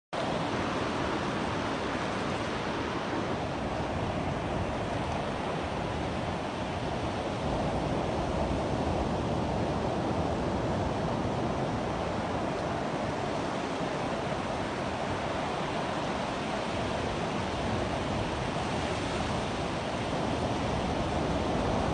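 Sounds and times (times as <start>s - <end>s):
ocean waves breaking: 0.2s - 21.9s.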